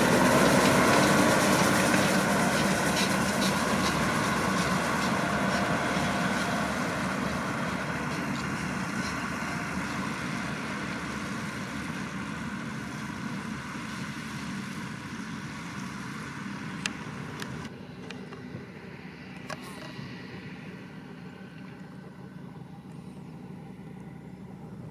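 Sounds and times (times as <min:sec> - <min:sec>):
baler working: 0:00.0 - 0:24.9
tractor engine under load: 0:00.0 - 0:24.9.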